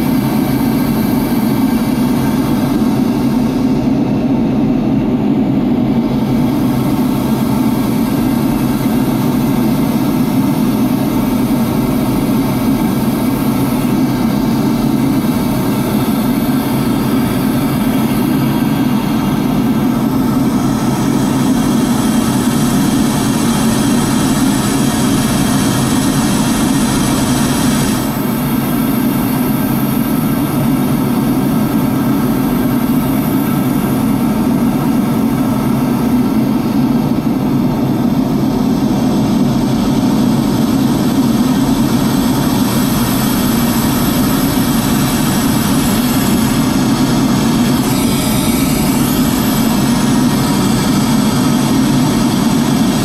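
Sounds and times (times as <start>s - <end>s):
aircraft engine and airflow roar: 0.0s - 53.0s.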